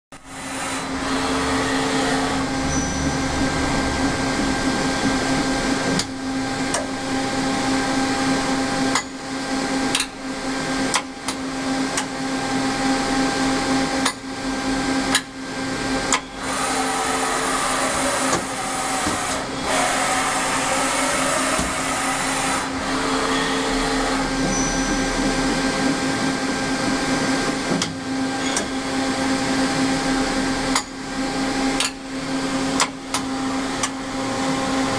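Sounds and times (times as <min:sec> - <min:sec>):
lathe machine hum: 0:00.2 - 0:34.9
wavering machine whine: 0:00.2 - 0:34.9.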